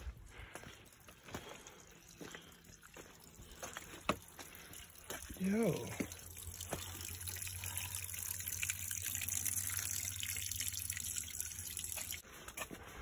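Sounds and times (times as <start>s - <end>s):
stream trickling over rocks: 0.5s - 12.2s.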